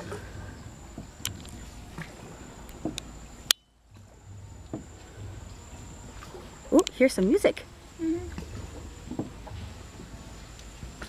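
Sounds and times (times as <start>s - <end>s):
oars splashing: 0.0s - 11.0s.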